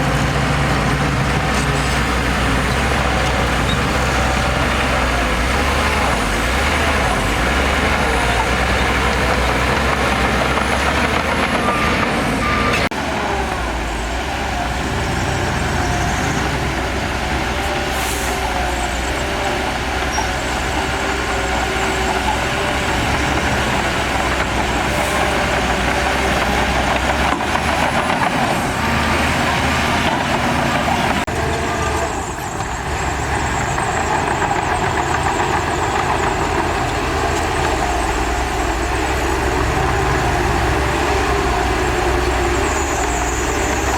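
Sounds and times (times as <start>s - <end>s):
heavy diesel machinery engine: 0.0s - 43.9s.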